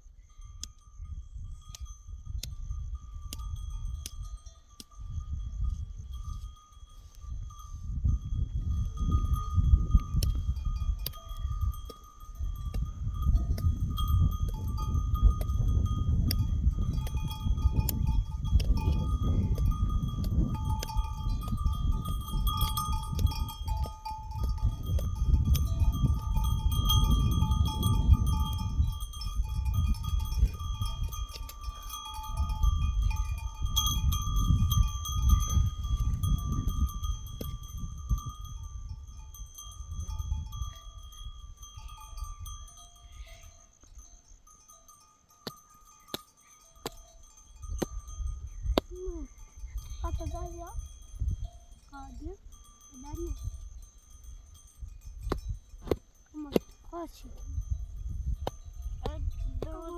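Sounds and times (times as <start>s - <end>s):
wind buffeting microphone: 0.0s - 59.9s
livestock bells ringing: 0.2s - 59.9s.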